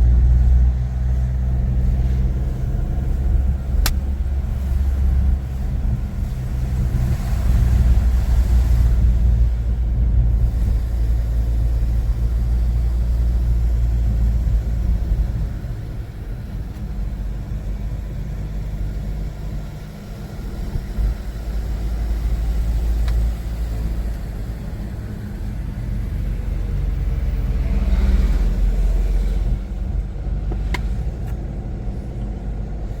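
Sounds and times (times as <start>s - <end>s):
car driving on road: 0.0s - 33.0s.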